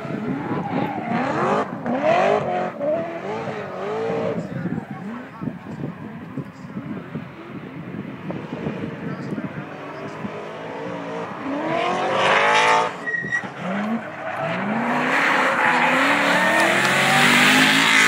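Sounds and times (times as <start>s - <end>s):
car engine revving hard: 0.0s - 5.3s, 8.2s - 18.0s
tyres squealing and skidding: 0.0s - 6.8s, 9.0s - 18.0s.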